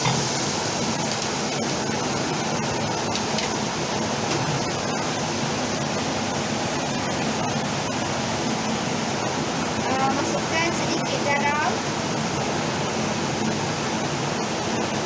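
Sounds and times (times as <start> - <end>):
chili paste sizzling in oil: 0.0 - 15.0.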